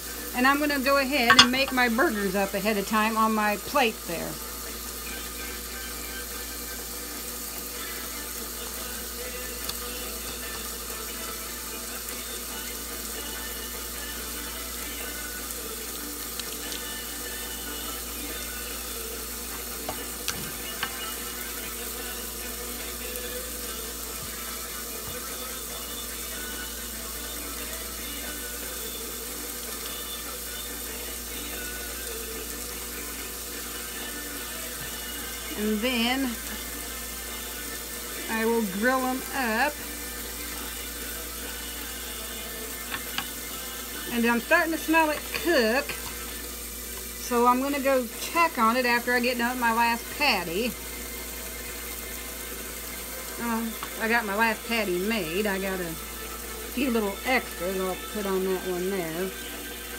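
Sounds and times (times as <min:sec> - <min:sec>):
burger patty sizzling on grill: 0:00.0 - 0:59.9.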